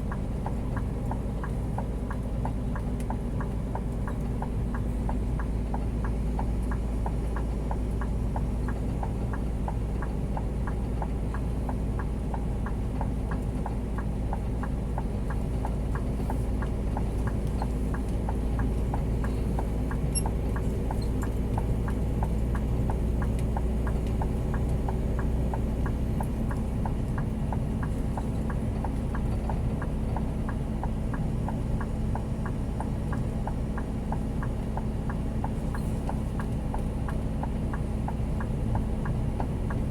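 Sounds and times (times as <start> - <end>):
diesel truck engine droning: 0.0 - 39.9
regular ticking clicks: 0.0 - 39.9.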